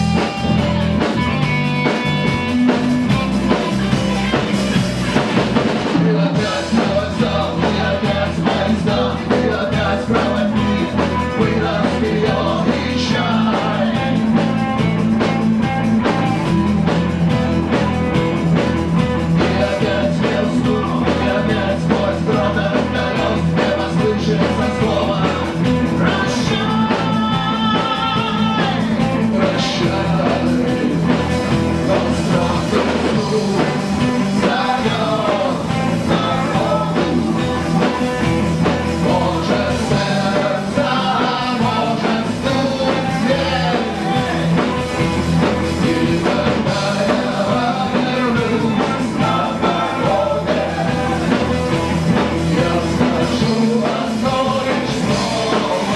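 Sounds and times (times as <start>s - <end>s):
drum kit beat: 0.0s - 55.9s
electric guitar: 0.0s - 55.9s.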